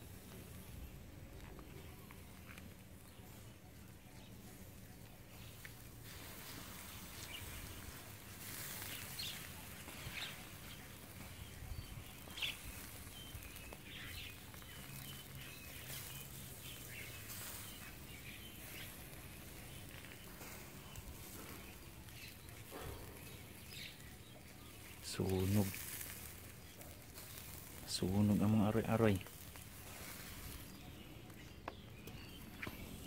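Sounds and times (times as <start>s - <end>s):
faint outdoor hiss: 0.0s - 33.0s.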